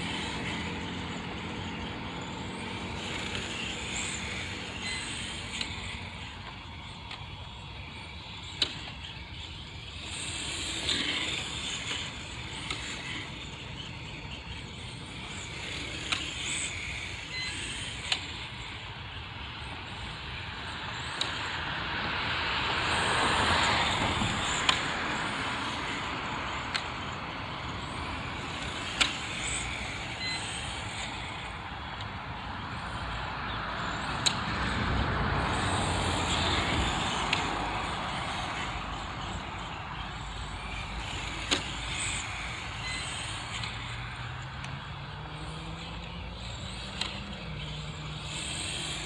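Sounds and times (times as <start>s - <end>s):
electric motor whine: 0.0s - 49.0s
rc car tyres hissing: 0.0s - 49.0s.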